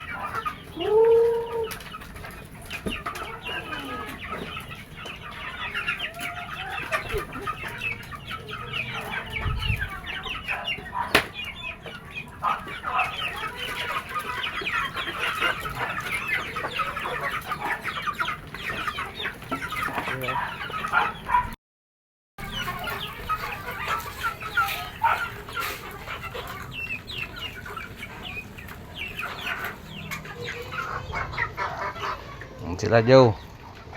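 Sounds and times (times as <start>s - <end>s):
chickens clucking and chirping: 0.0s - 21.6s, 22.4s - 33.9s.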